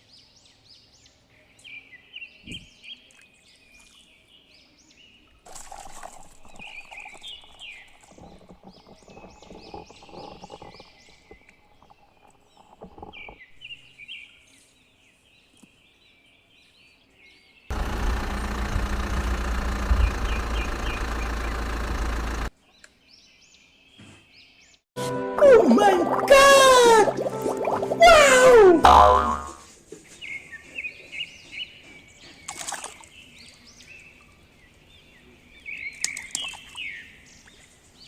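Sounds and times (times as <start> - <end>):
small birds chirping: 0.0 - 24.8, 30.0 - 38.0.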